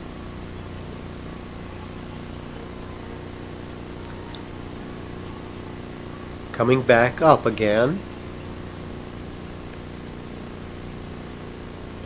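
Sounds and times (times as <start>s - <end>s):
low electrical hum: 0.0s - 12.0s
tape hiss: 0.0s - 12.0s.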